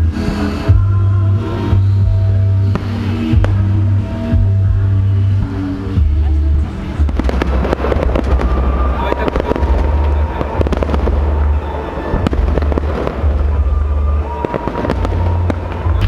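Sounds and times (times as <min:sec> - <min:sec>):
fireworks bangs and crackling: 0:00.0 - 0:16.0
low rumble: 0:00.0 - 0:16.0.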